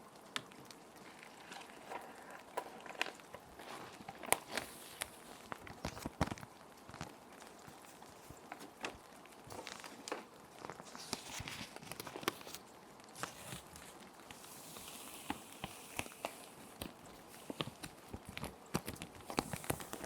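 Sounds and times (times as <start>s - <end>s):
plastic sheet protectors crinkling: 0.0s - 20.0s
soft rain: 0.0s - 20.0s.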